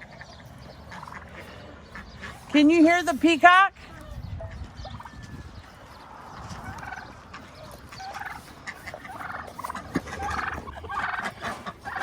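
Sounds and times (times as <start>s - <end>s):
turkey gobbling: 0.0s - 12.0s.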